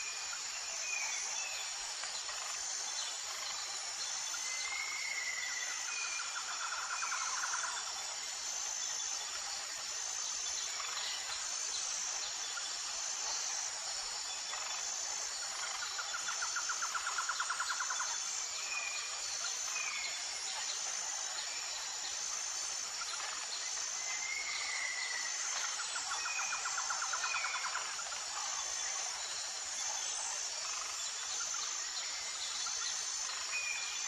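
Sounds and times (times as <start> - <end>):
insects chirring in pulses: 0.0 - 34.0.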